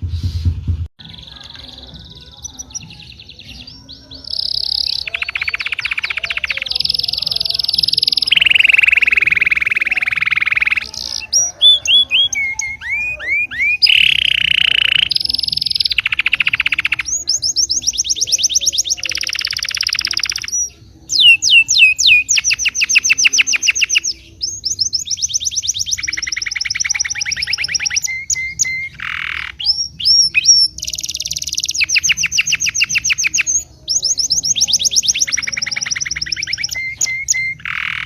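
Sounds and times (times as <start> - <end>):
songbirds singing: 1.0 - 38.0.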